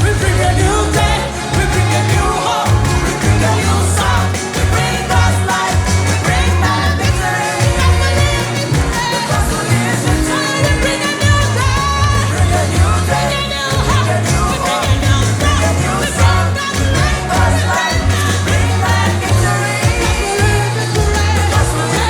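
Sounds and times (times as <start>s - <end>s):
pulsing bass beat: 0.0s - 22.0s
song with sung vocals: 0.0s - 22.0s.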